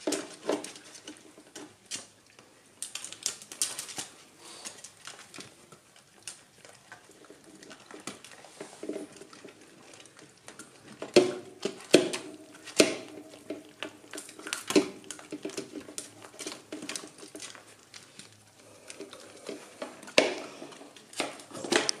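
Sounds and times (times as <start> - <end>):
puppies gnawing and crunching: 0.0 - 22.0.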